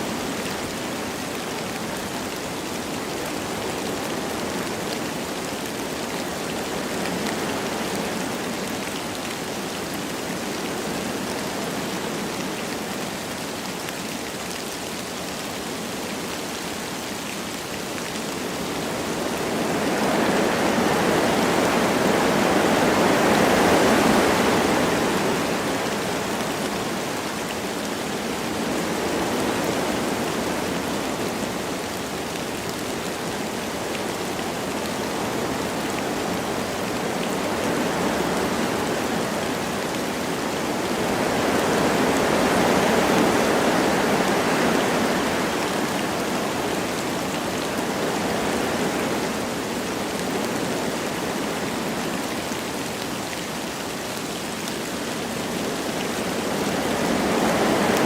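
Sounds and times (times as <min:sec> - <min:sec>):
light rain falling: 0:00.0 - 0:58.0
wind blowing through trees: 0:00.0 - 0:58.0.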